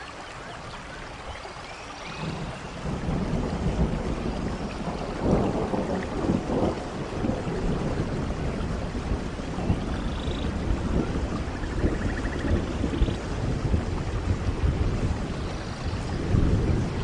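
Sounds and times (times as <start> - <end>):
rain falling: 0.0 - 17.0
low rumble of thunder: 2.0 - 17.0.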